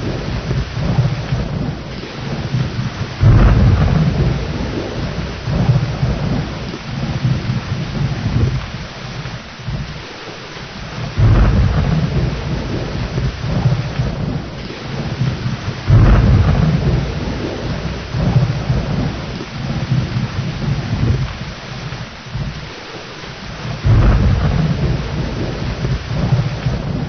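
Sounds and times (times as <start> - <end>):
rolling thunder: 0.0 - 10.1, 10.7 - 27.0
steady rain: 0.0 - 27.0.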